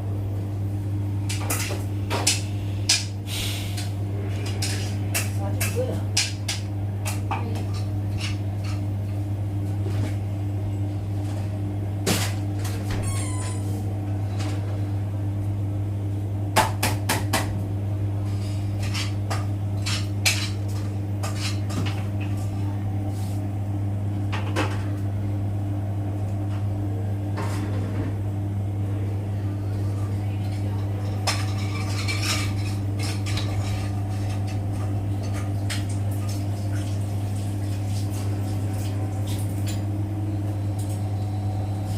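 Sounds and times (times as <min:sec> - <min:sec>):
washing machine humming: 0:00.0 - 0:41.9.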